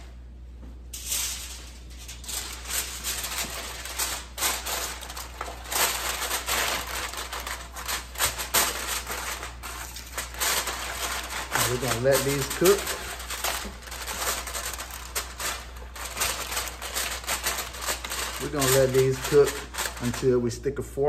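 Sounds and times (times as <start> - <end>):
aluminium foil crinkling: 1.0 - 20.8.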